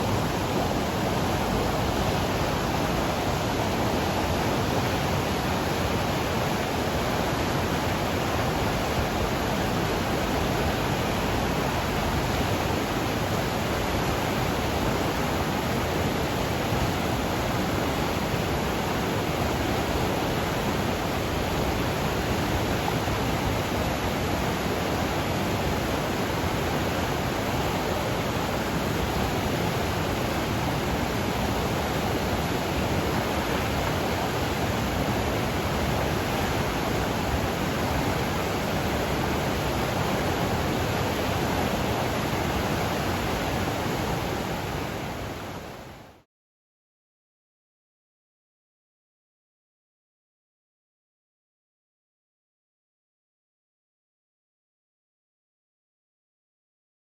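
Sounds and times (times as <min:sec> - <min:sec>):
river rushing: 0:00.0 - 0:46.2.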